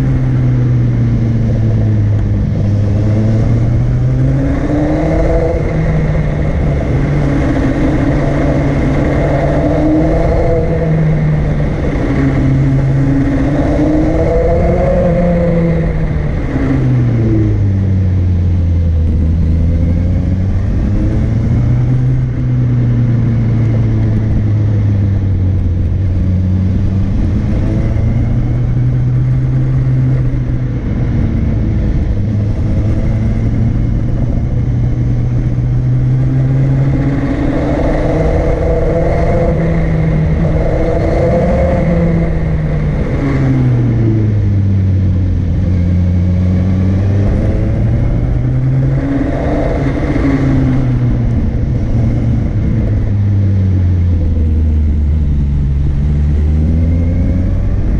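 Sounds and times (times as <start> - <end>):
road noise: 0.0 - 57.9
vehicle engine running under load: 0.0 - 57.9
wind: 0.0 - 57.9.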